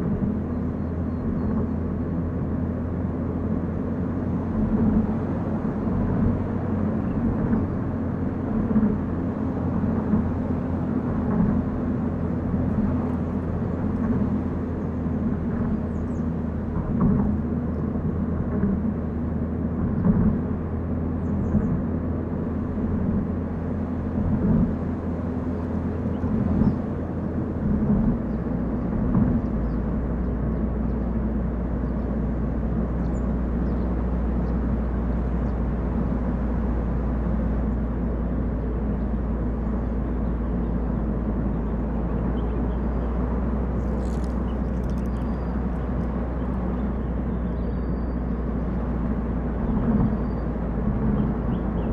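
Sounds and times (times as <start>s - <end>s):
car engine hum: 0.0s - 51.9s.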